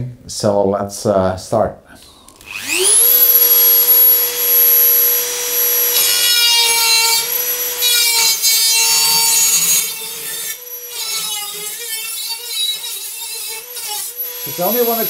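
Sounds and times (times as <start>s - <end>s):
rotary tool cutting sheet steel: 2.3s - 15.0s.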